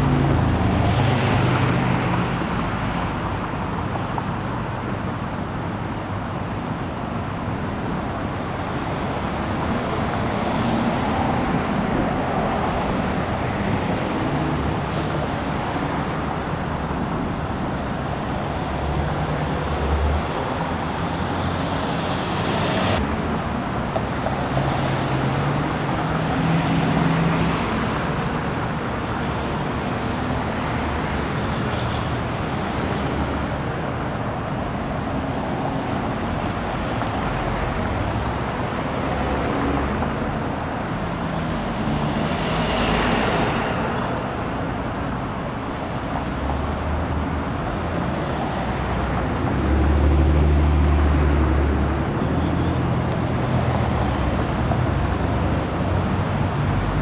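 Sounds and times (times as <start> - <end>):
highway traffic: 0.0 - 57.0.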